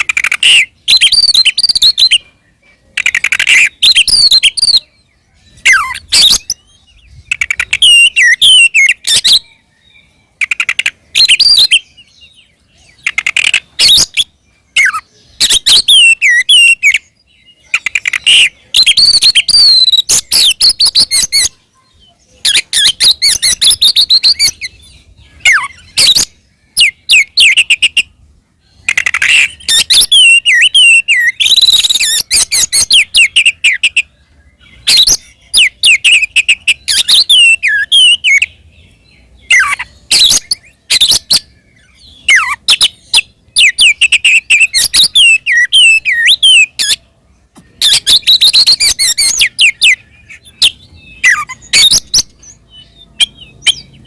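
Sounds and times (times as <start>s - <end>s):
bird singing whistled chattering song: 0.0s - 54.0s.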